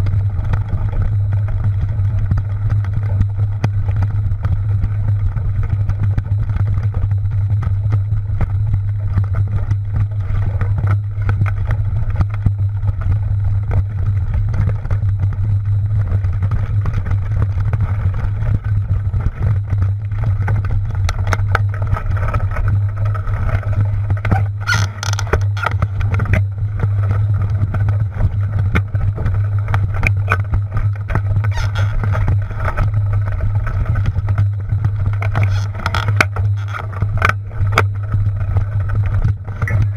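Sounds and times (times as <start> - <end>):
bike rattling and clicking: 0.0 - 39.9
bike tyres on dirt trail: 0.0 - 39.9
wind on microphone: 0.0 - 39.9.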